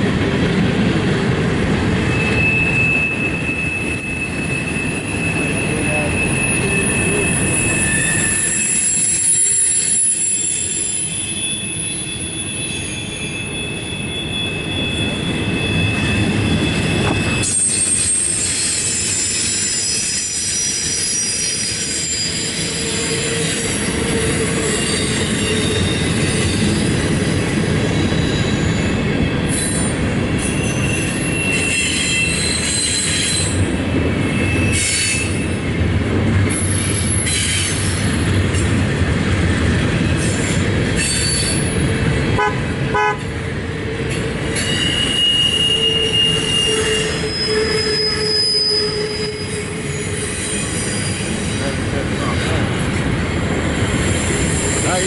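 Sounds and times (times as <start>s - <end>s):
wheels rumbling on rail: 0.0s - 55.0s
high wheel squeals: 2.0s - 35.7s, 40.0s - 42.0s, 44.5s - 52.7s, 53.7s - 55.0s.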